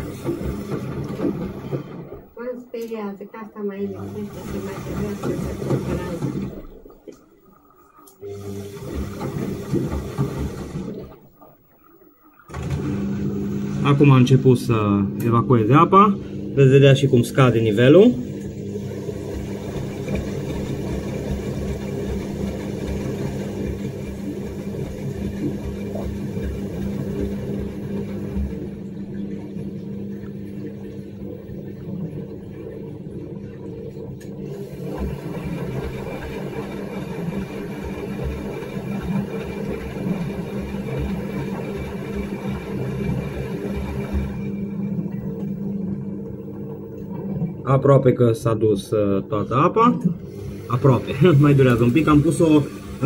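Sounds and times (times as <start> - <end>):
washing machine drain pump humming: 0.0 - 53.0.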